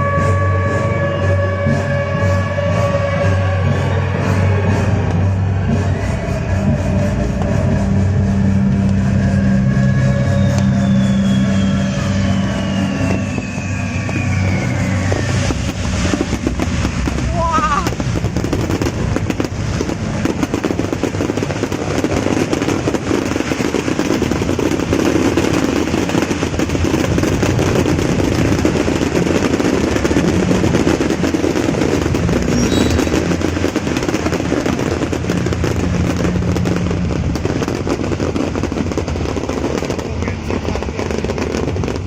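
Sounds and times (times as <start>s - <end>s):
fireworks crackling and popping: 0.0s - 42.0s.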